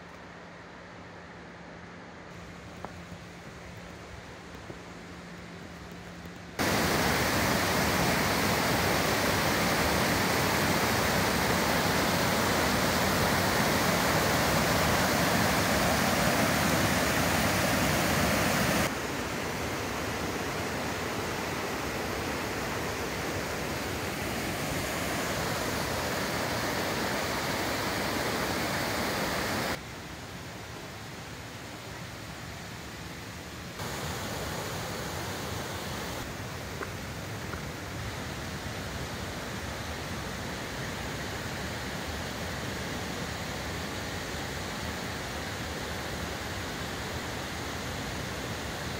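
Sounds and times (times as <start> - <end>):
stream rushing over boulders: 1.3 - 48.9.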